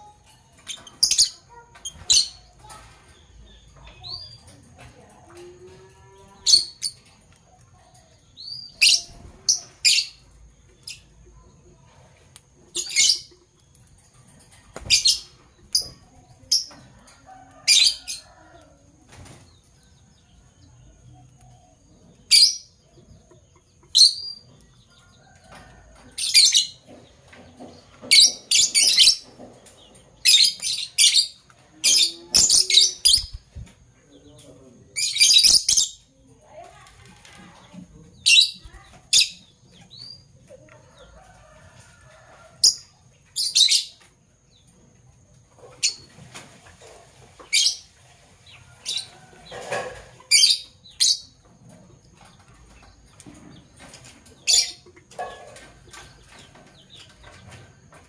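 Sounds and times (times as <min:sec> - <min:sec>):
lovebirds chirping: 0:00.0 - 0:11.5, 0:12.6 - 0:14.0, 0:19.2 - 0:44.7, 0:46.8 - 0:57.8.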